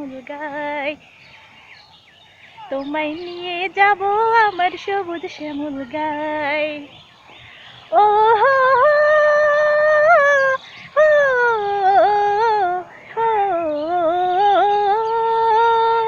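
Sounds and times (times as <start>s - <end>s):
woman singing unaccompanied: 0.0s - 1.5s, 2.5s - 16.0s.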